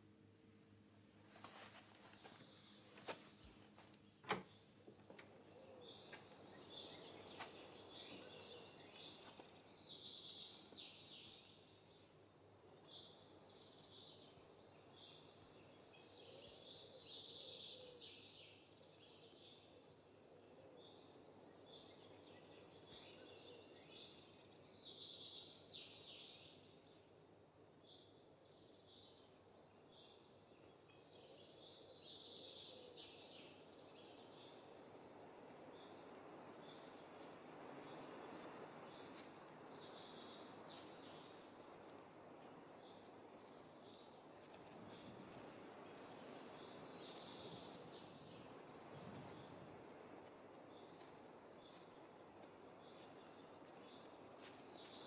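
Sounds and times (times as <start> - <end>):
small birds chirping: 1.4 - 55.0.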